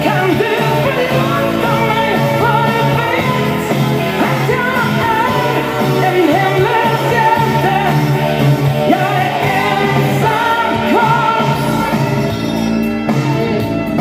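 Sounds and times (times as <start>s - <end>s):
woman singing: 0.0s - 8.2s, 8.9s - 12.1s
pop-rock band backing: 0.0s - 14.0s.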